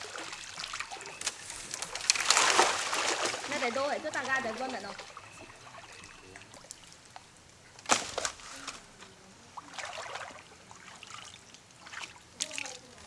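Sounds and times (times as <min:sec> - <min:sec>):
water sloshing from wading: 0:00.0 - 0:13.0
water splashes: 0:00.0 - 0:13.0.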